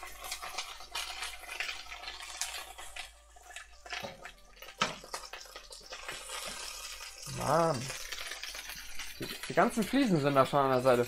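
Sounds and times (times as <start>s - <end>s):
sausages sizzling in a pan: 0.0s - 11.0s.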